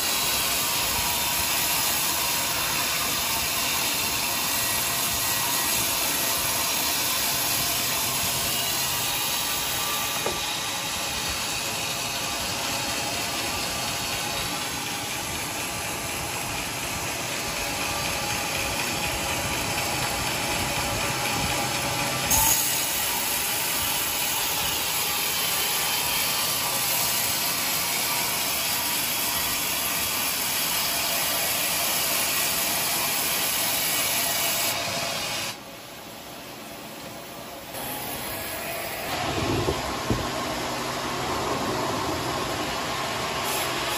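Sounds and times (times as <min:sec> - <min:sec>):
band saw cutting wood: 0:00.0 - 0:35.6, 0:37.7 - 0:43.9.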